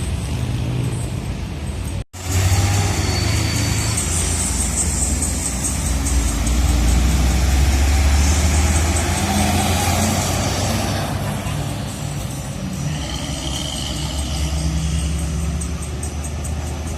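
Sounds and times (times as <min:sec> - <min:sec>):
heavy vehicle engine rumbling: 0:00.0 - 0:16.9.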